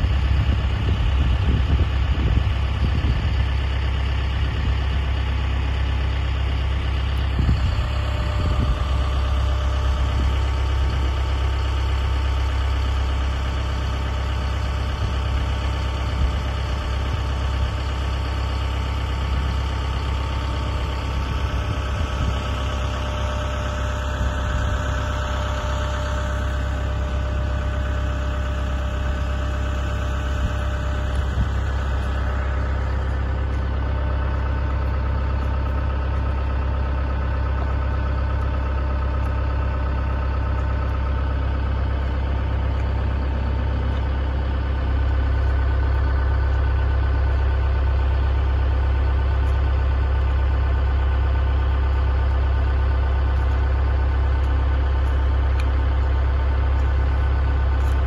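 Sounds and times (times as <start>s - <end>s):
large engine idling: 0.0s - 58.0s.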